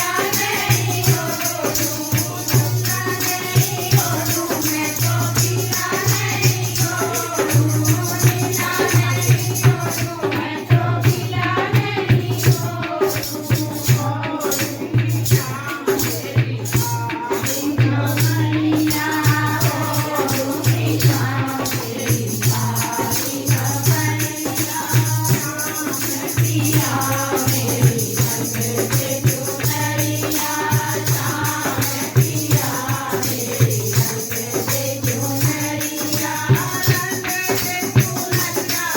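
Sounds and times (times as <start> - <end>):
devotional singing with music: 0.0 - 38.9
shaken rattle percussion: 0.0 - 38.9.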